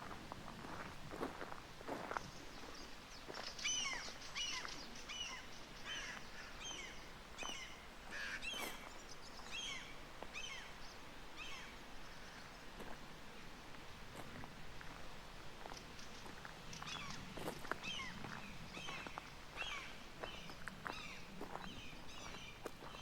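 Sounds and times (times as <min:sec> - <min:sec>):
songbird chirping: 0:01.2 - 0:13.4, 0:15.6 - 0:23.0.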